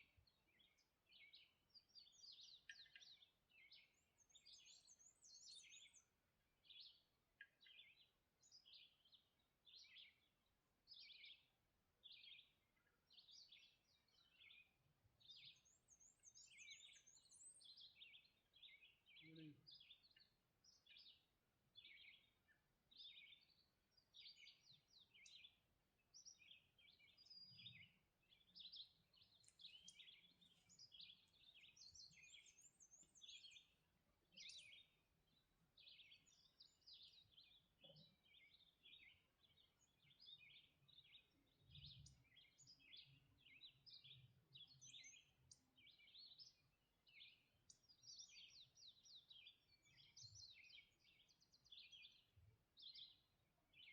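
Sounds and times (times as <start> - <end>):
songbirds chirping and trilling: 0.0 - 53.9.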